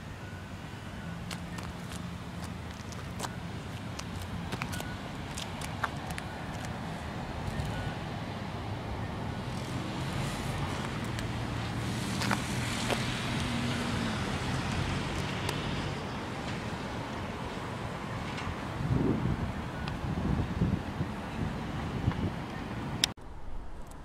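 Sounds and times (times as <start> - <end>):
hiss of passing vehicles: 0.0 - 22.9
vehicle engine hum: 0.0 - 23.9.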